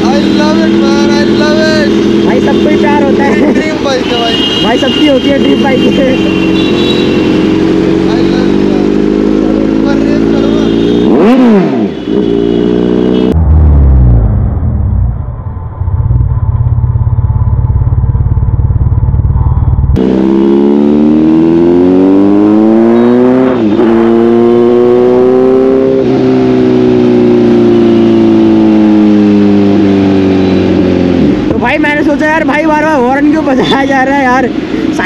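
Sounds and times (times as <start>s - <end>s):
motorcycle engine running: 0.0s - 33.5s.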